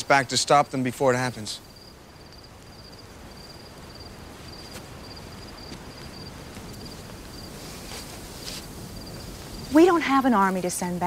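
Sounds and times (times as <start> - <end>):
cricket chirping: 0.0 - 11.0
low hiss: 0.0 - 11.0.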